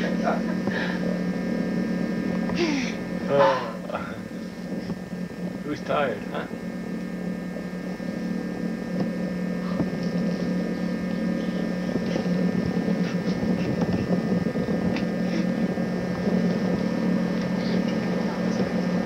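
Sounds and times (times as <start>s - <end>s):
faint high steady tones: 0.0s - 19.0s
steady low hum: 0.0s - 19.0s.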